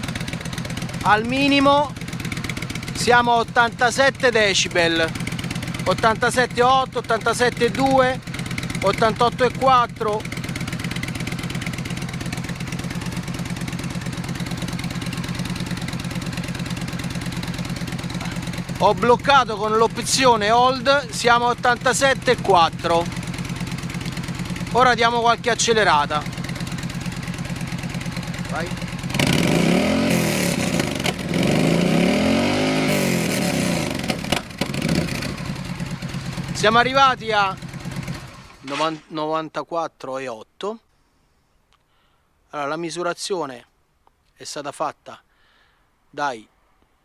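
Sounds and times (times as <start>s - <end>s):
motorcycle engine idling: 0.0s - 38.7s.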